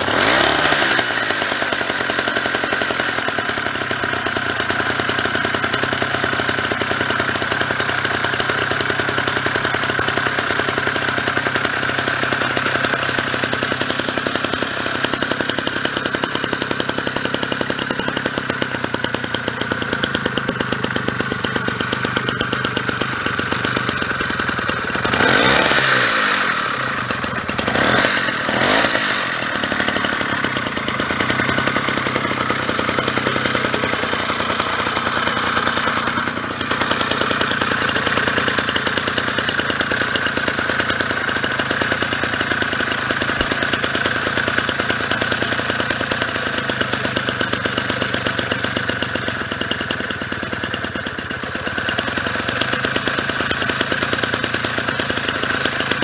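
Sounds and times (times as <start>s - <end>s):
small engine idling and revving: 0.0s - 56.0s.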